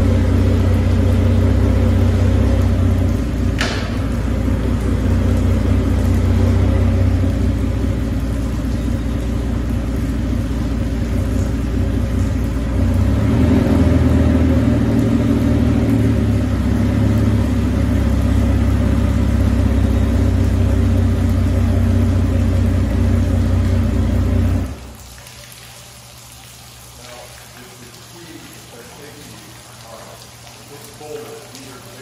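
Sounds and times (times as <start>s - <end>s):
outboard motors running: 0.0s - 32.0s
water splashing and trickling: 0.0s - 32.0s.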